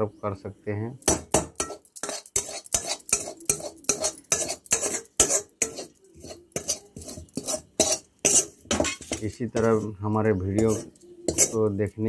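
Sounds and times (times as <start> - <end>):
metal spoon scraping a pan: 1.1 - 12.0.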